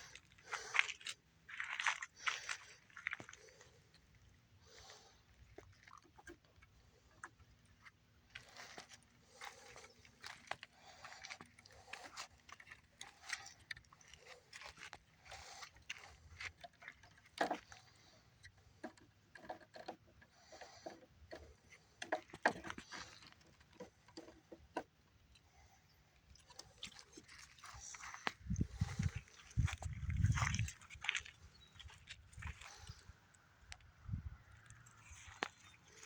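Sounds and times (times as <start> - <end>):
puppy chewing wood: 0.0 - 36.0.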